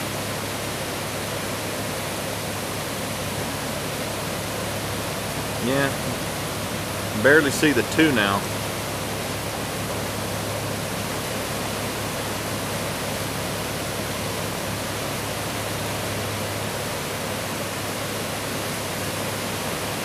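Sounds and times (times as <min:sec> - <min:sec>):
floodwater rushing over road: 0:00.0 - 0:20.0.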